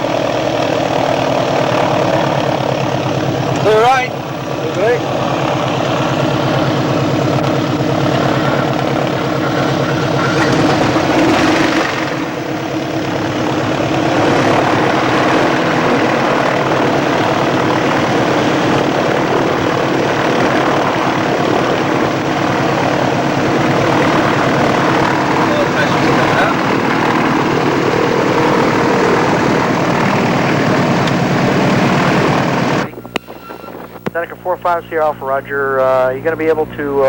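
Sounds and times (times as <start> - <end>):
propeller engines droning: 0.0 - 37.0.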